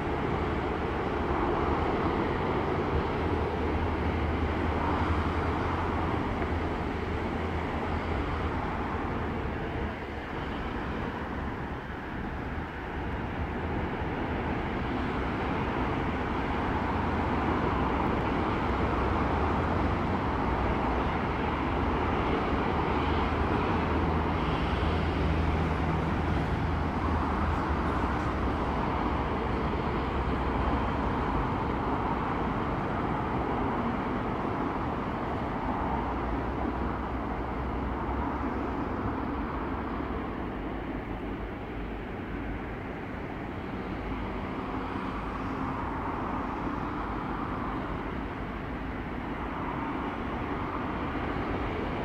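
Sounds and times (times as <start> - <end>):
locomotive engine humming: 0.0 - 52.0.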